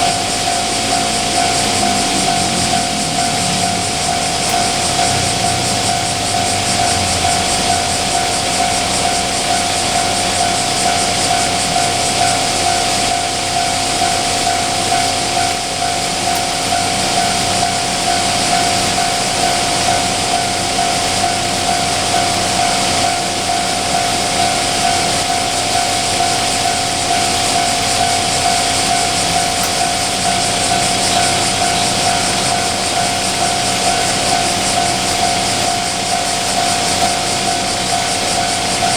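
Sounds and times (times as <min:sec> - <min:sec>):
level crossing alarm bell: 0:00.0 - 0:38.9
train passing: 0:00.0 - 0:38.9.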